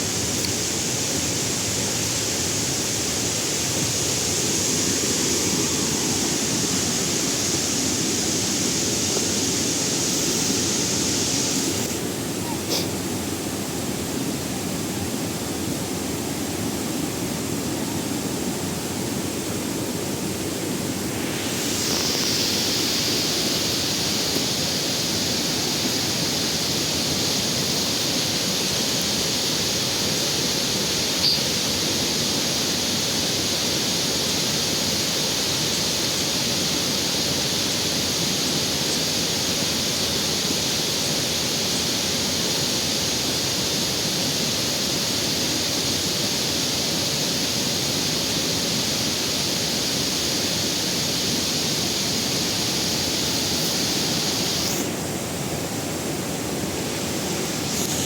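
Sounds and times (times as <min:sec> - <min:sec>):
flowing water rushing: 0:00.0 - 0:58.0
steady high hiss: 0:00.0 - 0:58.0.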